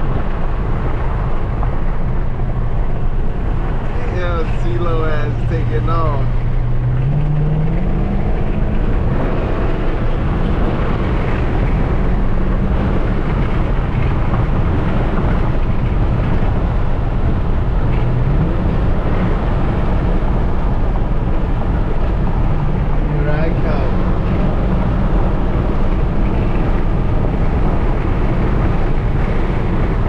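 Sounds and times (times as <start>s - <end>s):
car engine: 0.0s - 30.0s
road and wind noise: 0.0s - 30.0s.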